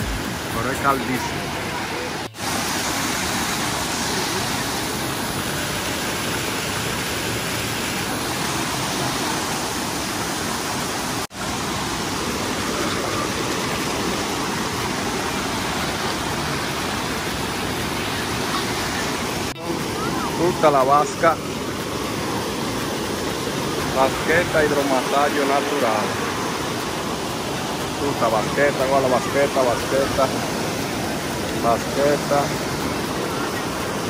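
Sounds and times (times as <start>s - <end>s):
water rushing through rock pools: 0.0s - 34.0s.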